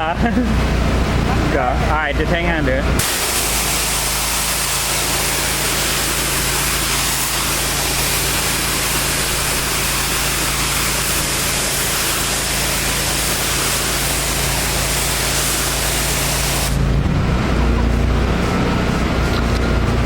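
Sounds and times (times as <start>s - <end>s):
engine humming: 0.0s - 20.0s
high-pressure water spraying: 3.0s - 20.0s.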